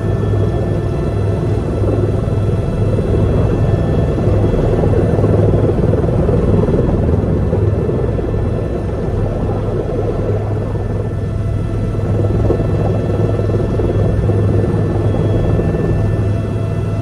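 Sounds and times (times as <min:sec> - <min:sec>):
faint high whine: 0:00.0 - 0:17.0
helicopter rotor and engine drone: 0:00.0 - 0:17.0.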